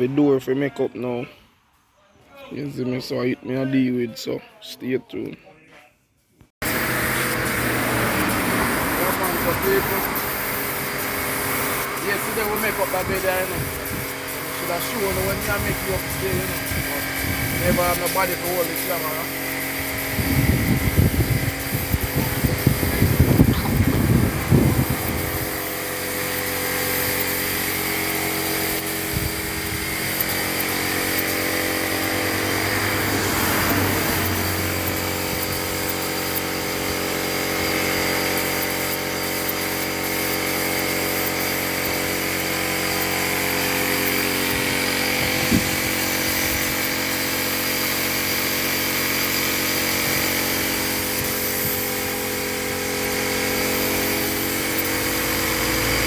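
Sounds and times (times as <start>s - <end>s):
air compressor motor humming: 6.6s - 56.0s
spray gun hissing: 6.6s - 56.0s.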